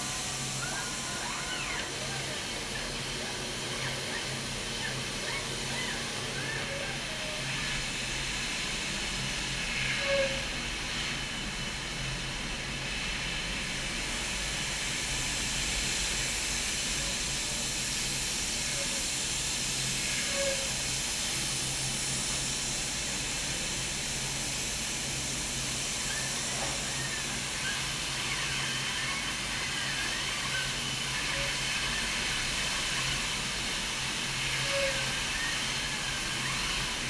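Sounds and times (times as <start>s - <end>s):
low machine hum: 0.0s - 37.0s
steady hiss: 0.0s - 37.0s.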